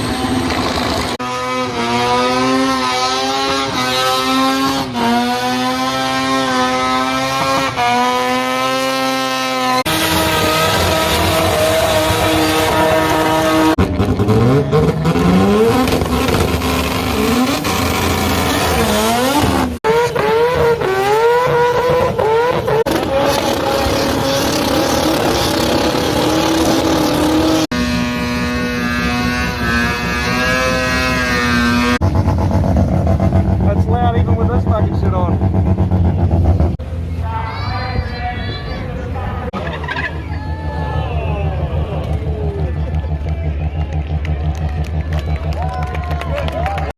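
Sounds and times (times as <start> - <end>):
rotary car engines revving: 0.0 - 46.9.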